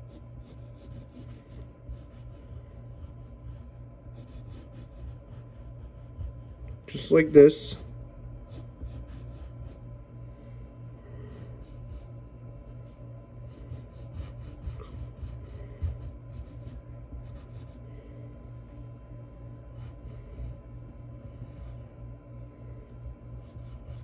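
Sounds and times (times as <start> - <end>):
pencil scratching on paper: 0.0 - 9.8, 11.2 - 17.8, 19.7 - 22.0, 22.8 - 24.0.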